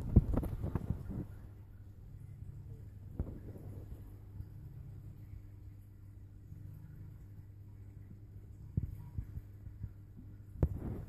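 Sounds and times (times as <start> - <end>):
aquarium pump and filter hum: 0.0 - 11.0.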